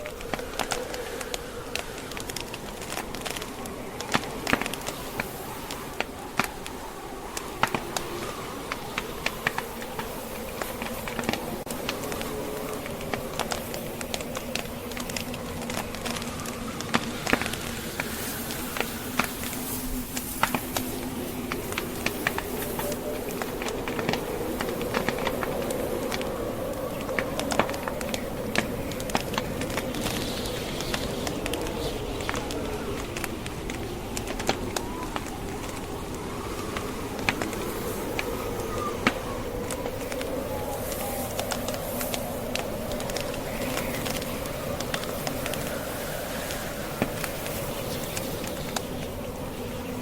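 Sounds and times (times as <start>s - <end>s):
log fire crackling and popping: 0.0s - 50.0s
wind from a snowstorm: 0.0s - 50.0s.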